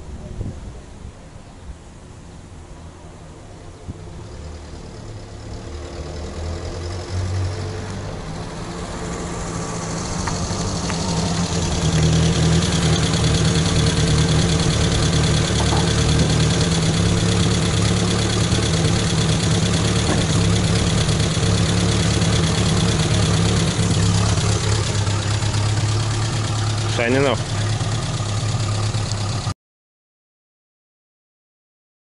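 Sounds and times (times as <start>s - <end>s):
jeep engine approaching and idling: 1.4s - 29.6s.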